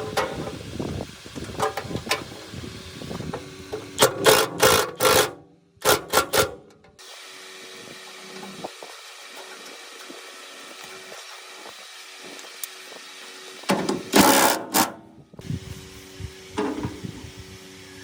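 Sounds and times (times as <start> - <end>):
loud tool strokes: 1.5 - 18.0.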